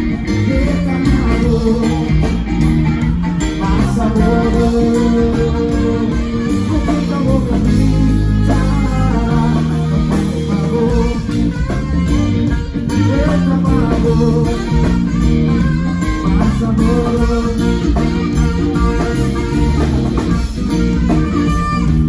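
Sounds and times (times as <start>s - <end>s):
live band guitars and bass: 0.0s - 22.0s.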